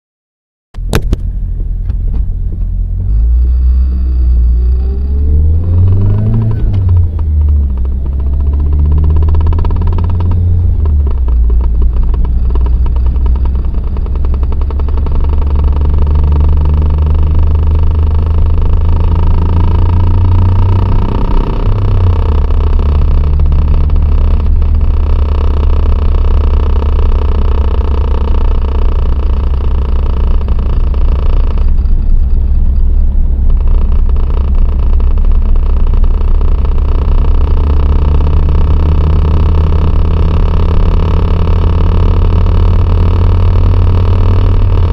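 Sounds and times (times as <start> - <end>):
car engine running: 0.8 - 44.9
engine rattling: 0.8 - 44.9.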